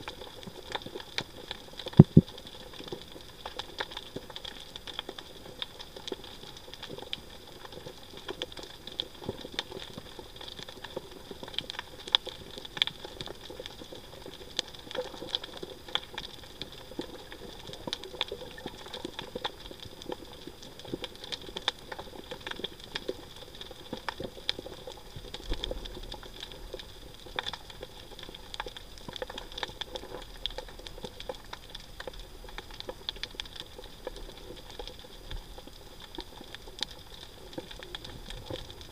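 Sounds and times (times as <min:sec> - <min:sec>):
crackle of sharp clicks underwater: 0:00.0 - 0:38.9.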